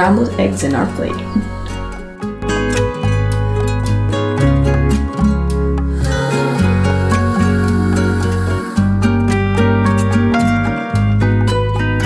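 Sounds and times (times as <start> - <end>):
plucked string melody: 0.0 - 12.0
steady bass line: 0.0 - 12.0.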